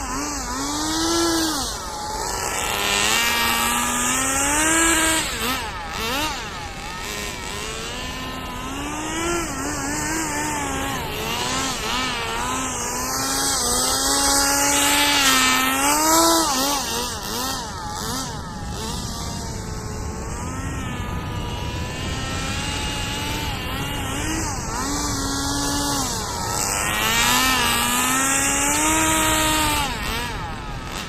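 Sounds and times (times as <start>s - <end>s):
small rc car engine running: 0.0s - 31.0s.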